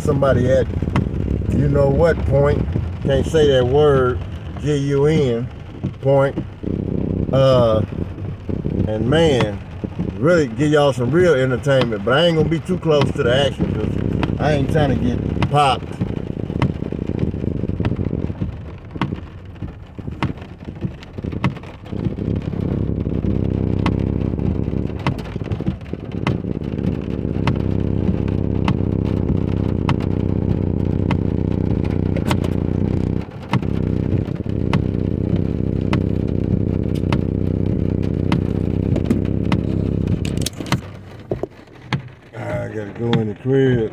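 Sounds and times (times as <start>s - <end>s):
car road and engine rumble: 0.0s - 43.9s
raindrops hitting car windshield: 0.0s - 43.9s.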